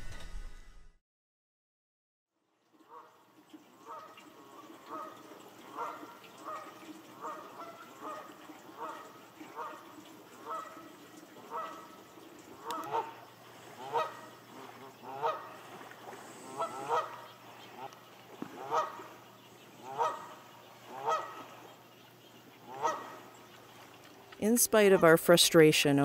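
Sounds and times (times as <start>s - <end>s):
geese honking: 3.8s - 25.3s.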